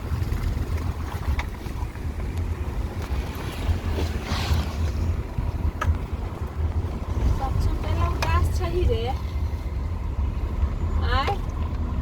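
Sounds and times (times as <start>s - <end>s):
moving vehicle noise: 0.0s - 12.0s
wind buffeting microphone: 0.0s - 12.0s.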